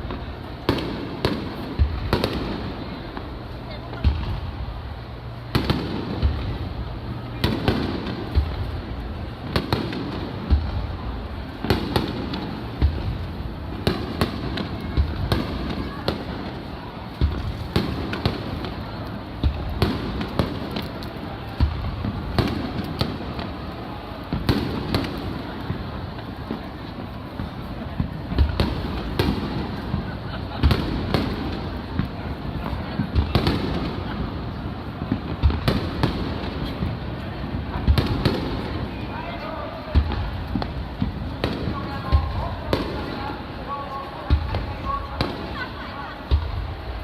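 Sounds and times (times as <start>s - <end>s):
crowd murmuring: 0.0s - 47.0s
fireworks bursting: 0.0s - 47.0s.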